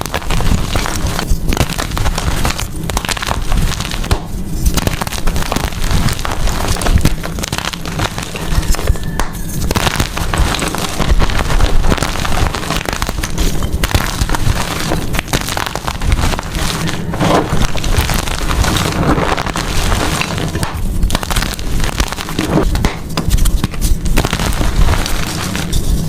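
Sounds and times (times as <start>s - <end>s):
chalk being crushed: 0.0s - 26.0s.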